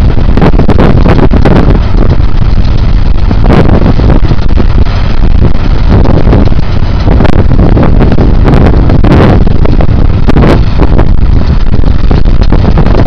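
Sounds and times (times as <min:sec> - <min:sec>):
tractor running: 0:00.0 - 0:13.0
wind buffeting on microphone: 0:00.0 - 0:13.0.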